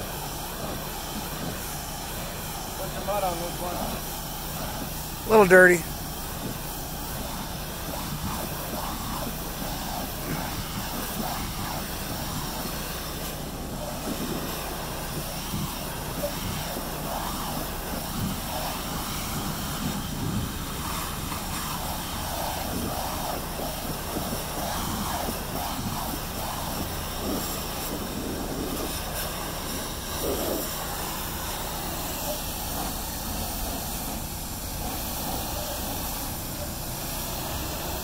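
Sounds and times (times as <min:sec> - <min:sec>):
pressure washer jet hissing: 0:00.0 - 0:38.0.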